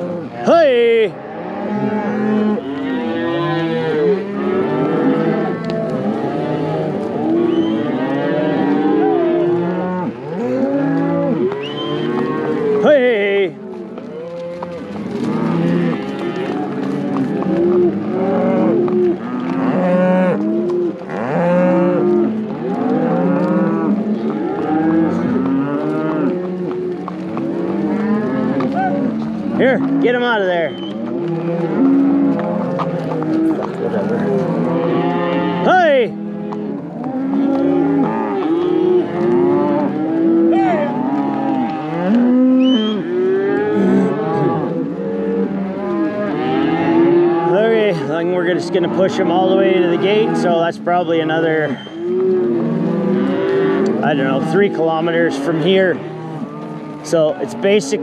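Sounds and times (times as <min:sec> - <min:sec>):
cattle mooing and bellowing: 0:00.0 - 0:58.0.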